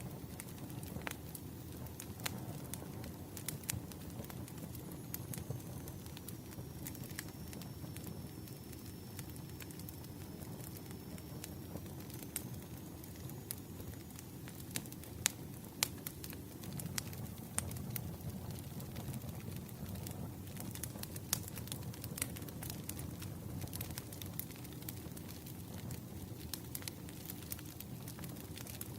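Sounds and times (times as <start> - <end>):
fire crackles and pops: 0.0 - 28.9
low rumble of flames: 0.0 - 28.9.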